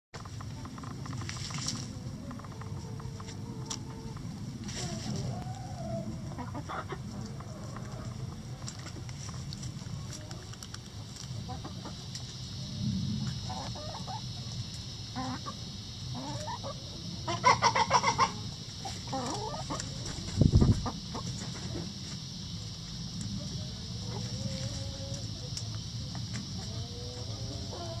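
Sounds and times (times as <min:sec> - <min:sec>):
chickens clucking: 0:00.2 - 0:28.0.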